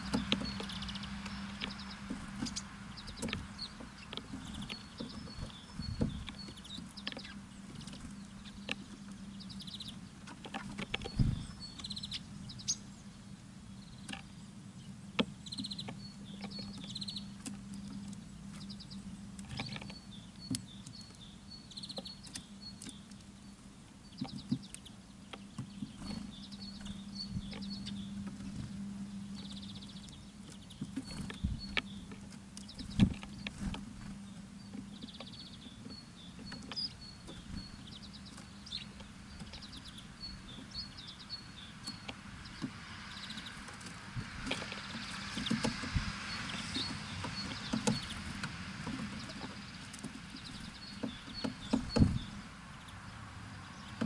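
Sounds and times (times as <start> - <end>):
birds pecking taps and clicks: 0.0 - 12.8, 14.0 - 54.0
steady low hum: 0.0 - 54.0.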